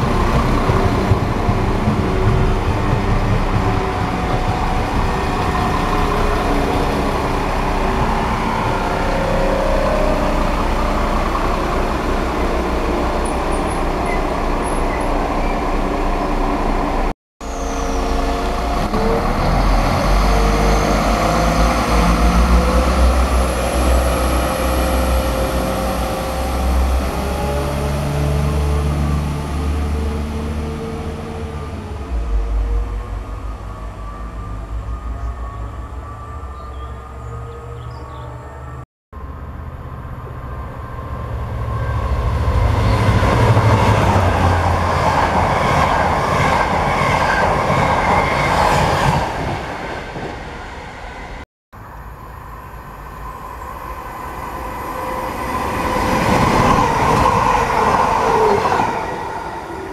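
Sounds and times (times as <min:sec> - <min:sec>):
diesel train engine drone: 0:00.0 - 0:59.9
electric train passing: 0:00.0 - 0:59.9.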